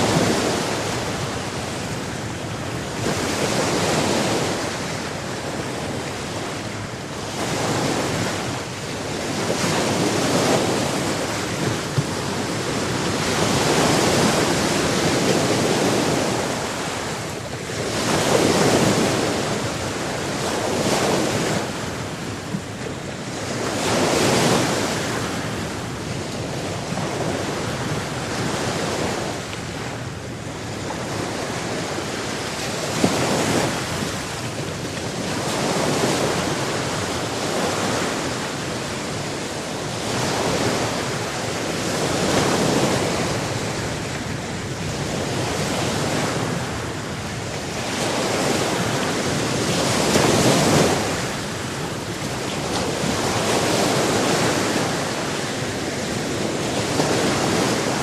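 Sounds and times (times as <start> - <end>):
waves washing in: 0.0 - 58.0.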